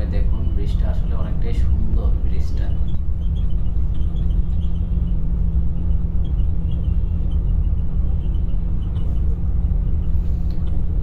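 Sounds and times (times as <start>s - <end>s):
bus engine and tyre rumble: 0.0s - 11.0s.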